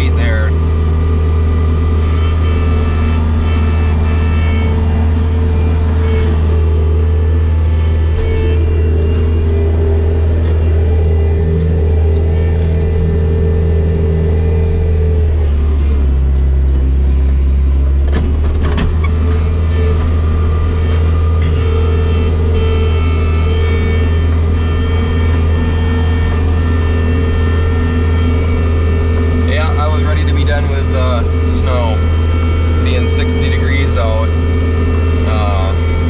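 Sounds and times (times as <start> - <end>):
skid-steer loader diesel engine: 0.0 - 36.0.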